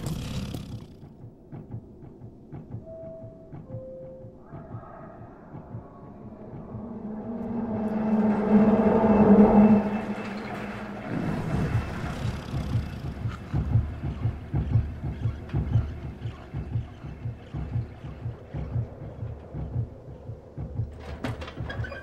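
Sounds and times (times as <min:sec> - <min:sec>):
low rhythmic throbbing pulse: 0:00.0 - 0:22.0.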